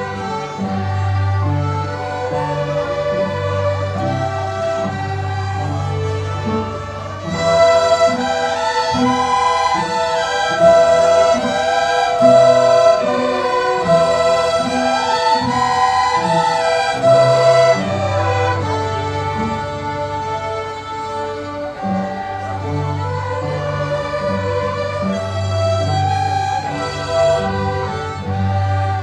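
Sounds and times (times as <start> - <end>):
low string notes: 0.0 - 29.0
violins playing melody: 0.0 - 29.0.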